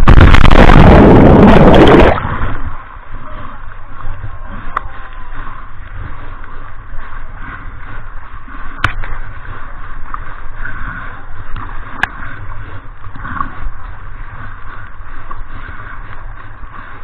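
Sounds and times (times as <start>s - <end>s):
river water rushing and splashing: 0.0s - 14.6s.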